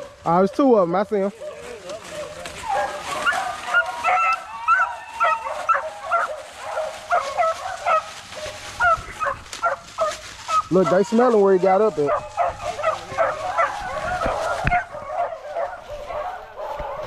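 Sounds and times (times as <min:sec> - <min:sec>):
puppies yipping and whining: 0:01.3 - 0:17.0.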